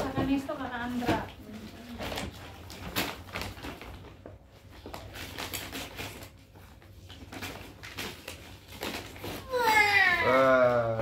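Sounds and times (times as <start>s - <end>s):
wrapping paper rustling: 0.0s - 11.0s.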